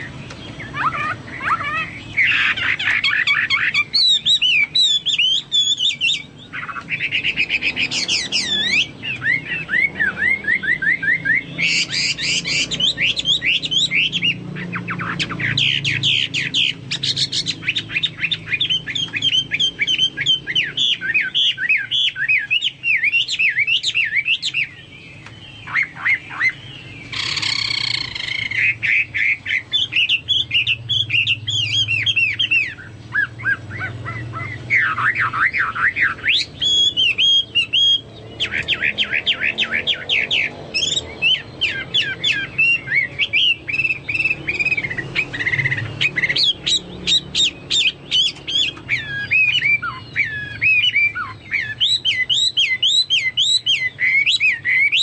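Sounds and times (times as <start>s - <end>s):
songbird whistling and trilling: 0.0s - 55.0s.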